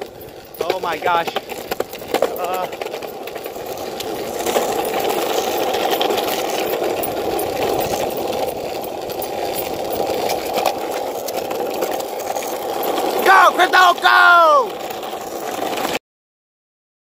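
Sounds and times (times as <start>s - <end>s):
longboard wheels rolling on asphalt: 0.0s - 16.0s.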